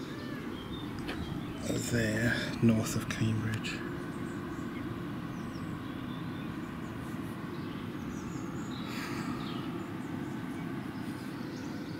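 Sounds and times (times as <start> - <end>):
faint bird chirps: 0.0 - 11.9
steady low rumble: 0.0 - 11.9.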